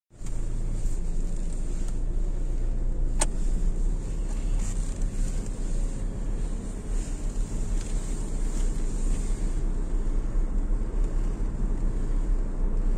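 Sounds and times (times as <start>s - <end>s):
car engine and tyres rumbling: 0.1s - 12.9s.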